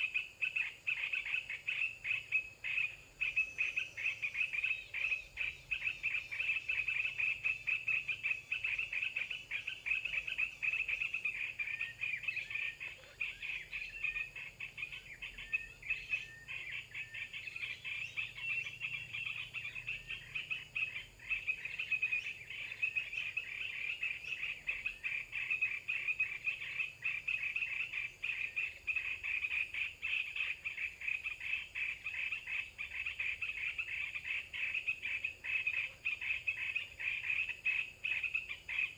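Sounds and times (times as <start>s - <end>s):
animals calling in pulsing trill: 0.0s - 38.9s
bird chirps: 0.0s - 38.9s.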